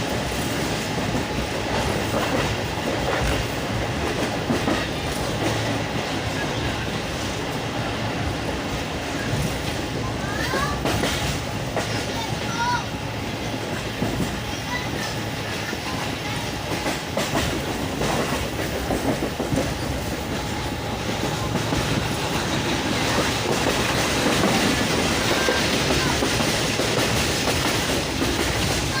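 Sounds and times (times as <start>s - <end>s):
rail clicks: 0.0s - 29.0s
train wheels on rails: 0.0s - 29.0s.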